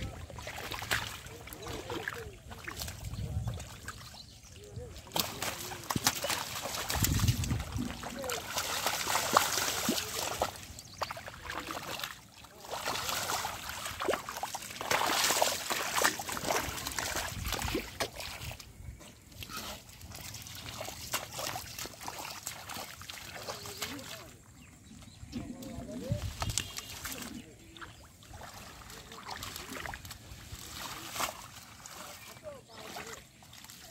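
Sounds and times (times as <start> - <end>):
splashing in shallow water: 0.0 - 33.9.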